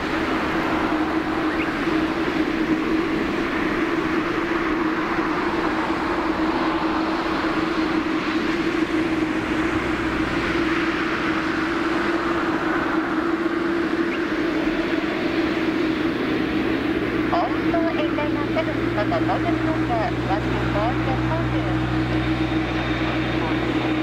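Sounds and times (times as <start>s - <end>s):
constant hum: 0.0s - 24.0s
jet engines roaring: 0.0s - 24.0s.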